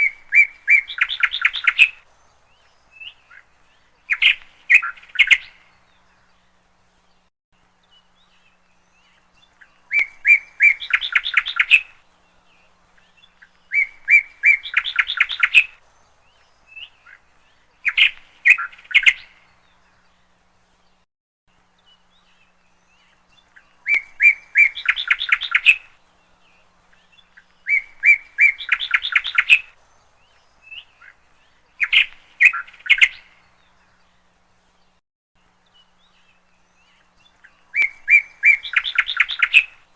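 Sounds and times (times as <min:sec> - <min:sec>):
bird chirps and trill: 0:00.0 - 0:20.4, 0:21.7 - 0:35.0, 0:35.6 - 0:39.9.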